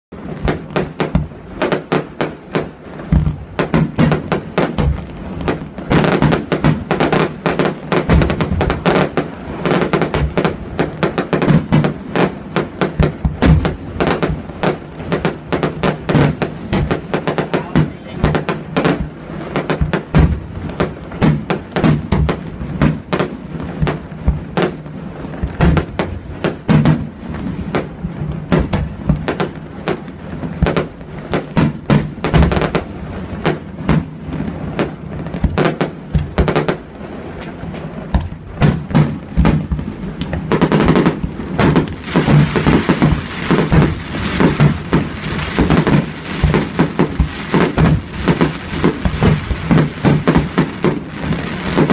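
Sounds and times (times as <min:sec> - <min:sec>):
fireworks launching and bursting: 0:00.1 - 0:51.9.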